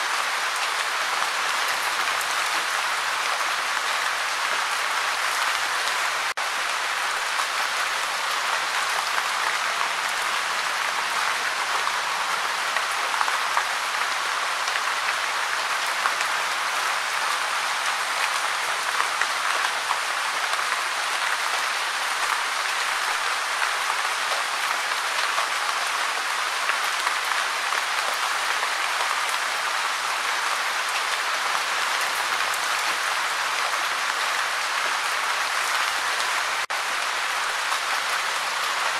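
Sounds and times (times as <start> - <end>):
gentle rain pattering: 0.0 - 38.9.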